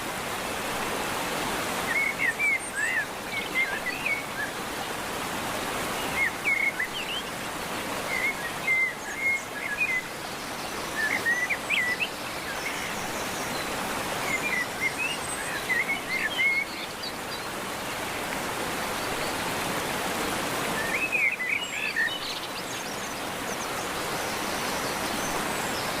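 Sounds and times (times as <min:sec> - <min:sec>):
songbirds chirping: 0:00.3 - 0:26.0.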